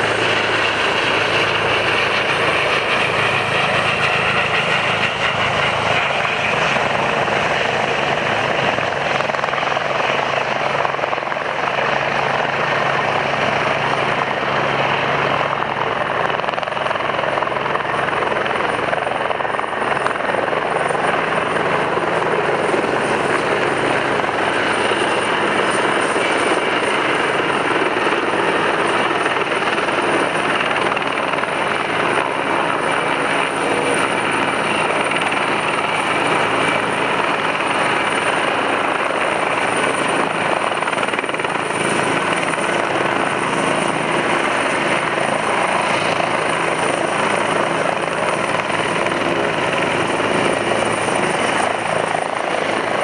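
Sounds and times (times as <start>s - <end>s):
helicopter hovering: 0.0s - 53.0s.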